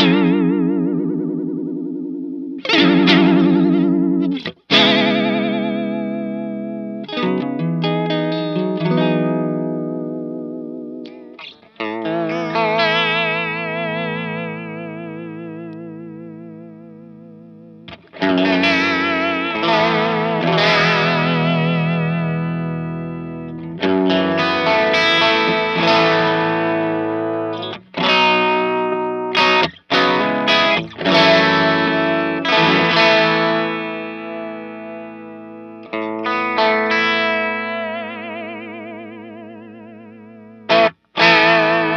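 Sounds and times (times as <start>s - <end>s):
electric guitar chords with chorus: 0.0s - 41.9s.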